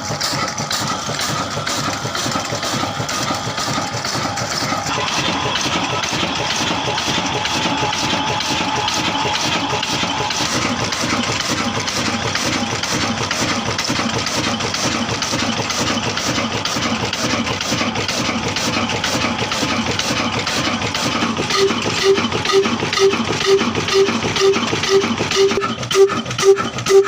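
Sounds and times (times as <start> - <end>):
slow diesel engine running: 0.0 - 27.0.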